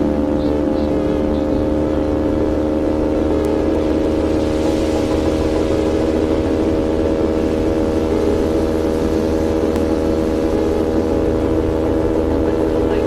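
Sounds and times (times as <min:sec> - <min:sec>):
motorcycle engine running: 0:00.0 - 0:13.0
rush of noise: 0:00.0 - 0:13.0.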